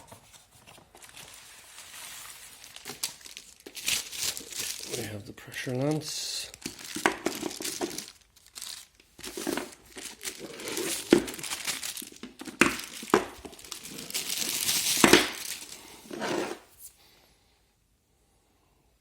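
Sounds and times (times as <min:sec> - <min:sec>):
plastic packaging crinkling: 0:00.0 - 0:16.9.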